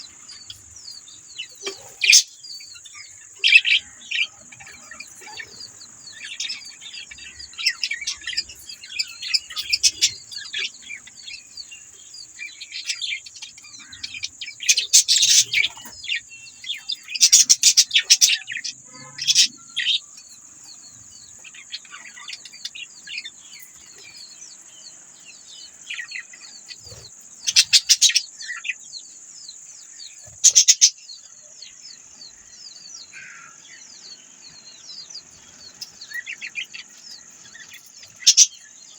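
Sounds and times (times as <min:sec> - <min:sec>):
budgerigars chattering: 0:00.0 - 0:29.1, 0:29.8 - 0:38.9.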